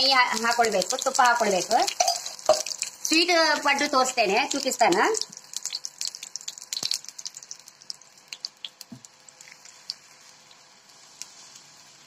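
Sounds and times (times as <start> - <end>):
ghee crackling in hot pan: 0.0 - 12.0.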